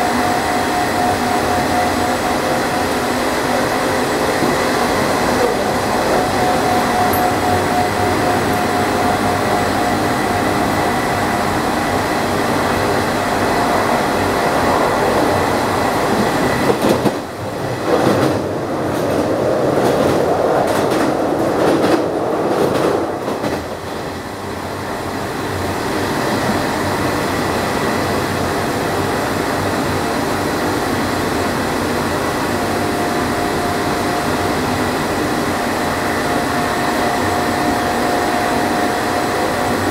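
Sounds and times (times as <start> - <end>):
train motor whine: 0.0 - 39.9
train wheels on rails: 0.0 - 39.9.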